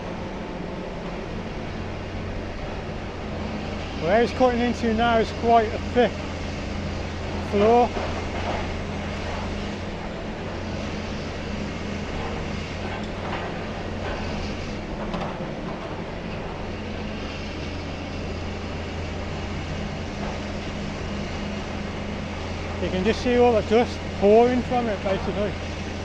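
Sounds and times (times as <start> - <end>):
distant demolition excavator running: 0.0 - 26.0.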